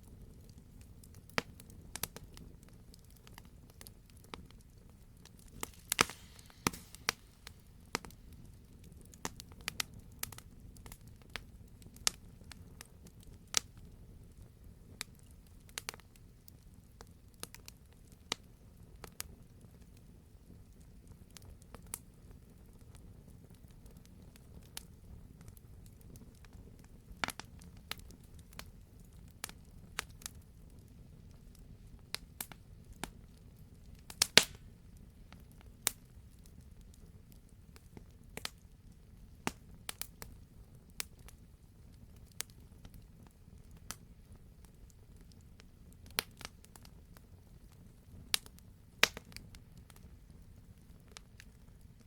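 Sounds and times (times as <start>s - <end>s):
fire popping and snapping: 0.0s - 52.0s
low rumble of fire: 0.0s - 52.0s.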